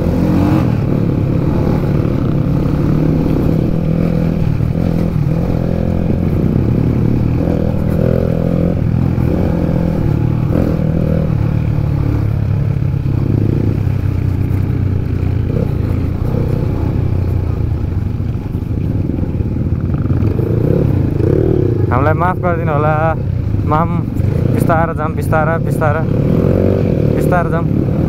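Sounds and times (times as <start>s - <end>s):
dirt bike engine revving: 0.0s - 17.6s, 19.8s - 28.0s.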